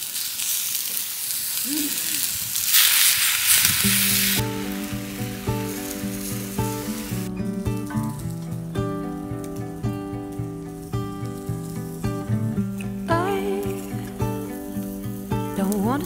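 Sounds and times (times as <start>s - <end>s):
food sizzling on a grill: 0.0s - 16.0s.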